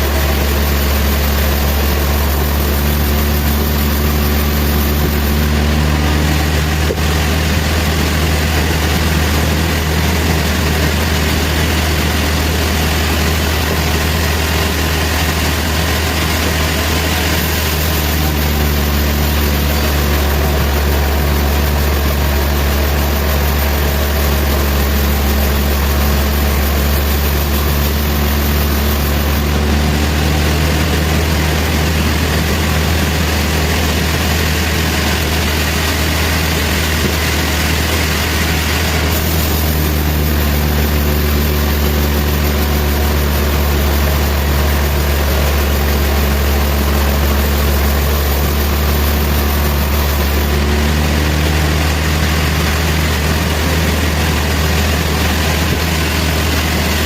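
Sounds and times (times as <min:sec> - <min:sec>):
sawmill machinery hum: 0:00.0 - 0:57.0.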